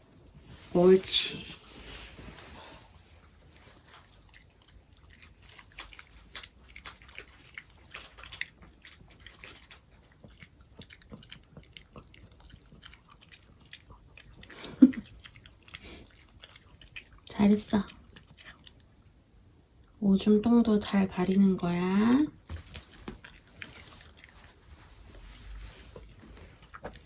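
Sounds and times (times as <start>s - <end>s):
dog chewing and crunching: 0.0s - 19.0s, 21.1s - 27.0s.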